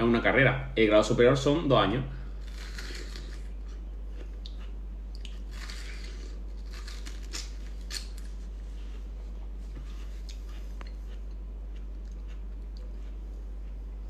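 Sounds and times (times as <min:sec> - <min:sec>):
steady low hum: 0:00.0 - 0:14.0
biting and chewing watermelon: 0:02.3 - 0:14.0.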